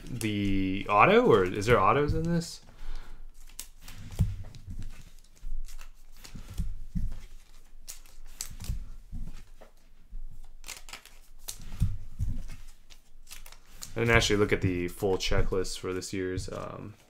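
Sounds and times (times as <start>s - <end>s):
cards rustling and sliding: 0.0s - 17.0s.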